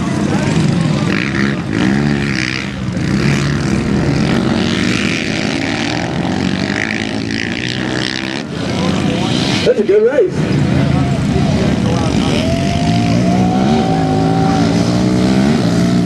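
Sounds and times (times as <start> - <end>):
quad engines revving: 0.0 - 16.0.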